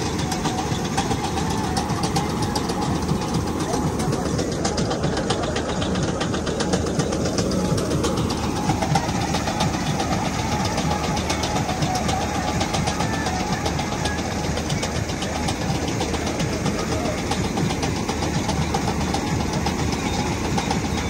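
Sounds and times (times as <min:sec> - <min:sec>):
diesel engine running: 0:00.0 - 0:21.0
fast even ticking: 0:00.0 - 0:21.0.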